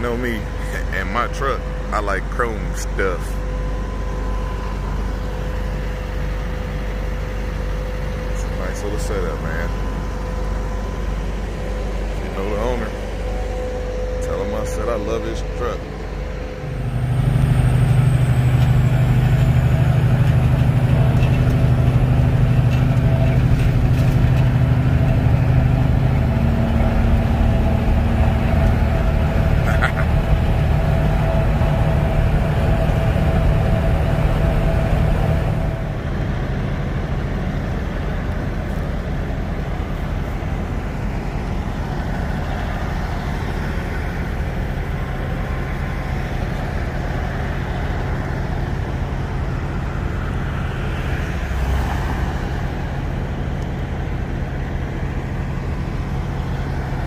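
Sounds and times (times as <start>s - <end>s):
truck diesel engine running: 0.0s - 57.0s
vehicle rumble: 0.0s - 57.0s.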